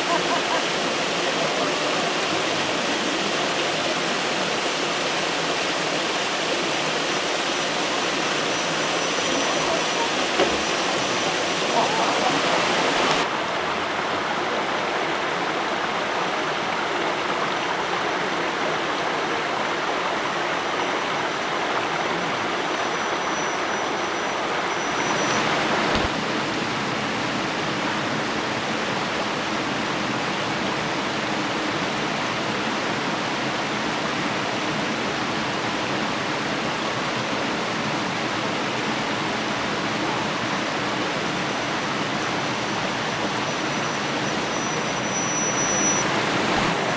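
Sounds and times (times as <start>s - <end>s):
creek water rushing over rocks: 0.0s - 46.9s.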